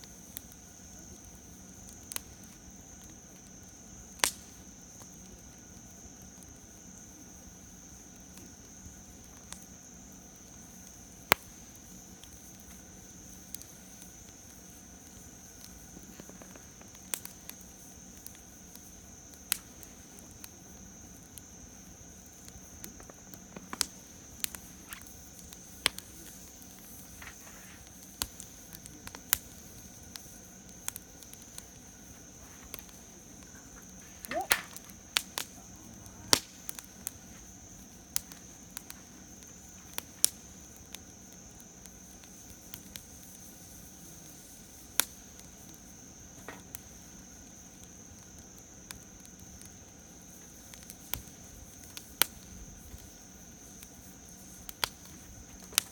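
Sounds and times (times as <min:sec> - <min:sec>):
campfire crackling and popping: 0:00.0 - 0:55.9.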